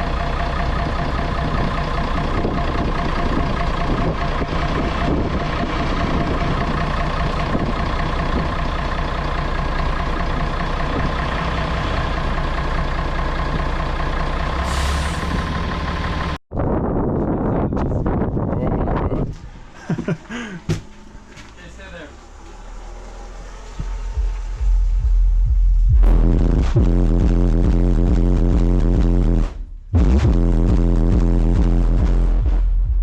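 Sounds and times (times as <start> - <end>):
bus diesel engine running: 0.0 - 16.9, 17.6 - 33.0.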